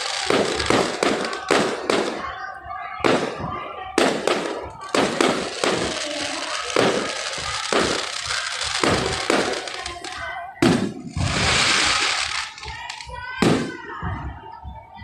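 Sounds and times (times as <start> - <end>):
fireworks booming: 0.0 - 2.4, 3.0 - 14.3
crowd din: 0.0 - 15.0
music: 0.0 - 15.0.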